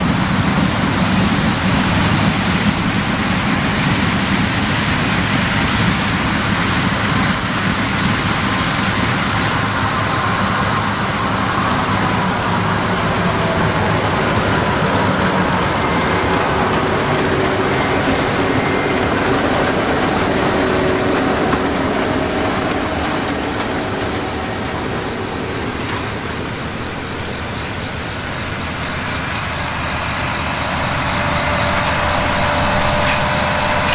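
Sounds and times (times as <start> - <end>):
diesel farm machinery running: 0.0 - 33.9.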